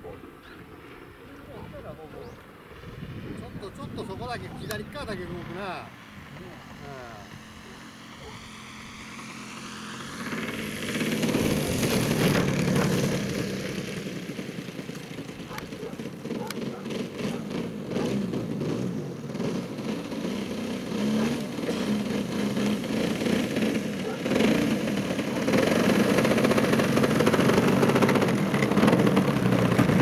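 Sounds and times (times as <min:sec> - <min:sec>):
model plane engine and propeller: 0:00.0 - 0:30.0.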